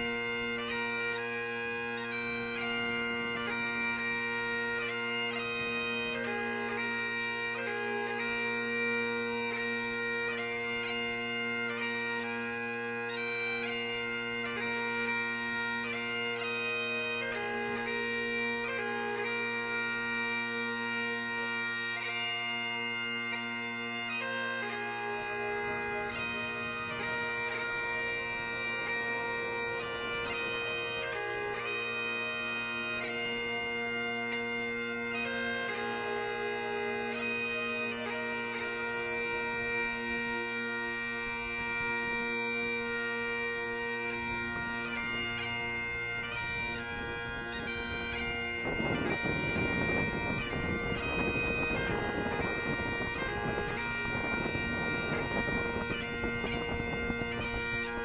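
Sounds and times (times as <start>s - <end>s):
bagpipe chanter melody: 0.0s - 58.0s
bagpipe drone: 0.0s - 58.0s.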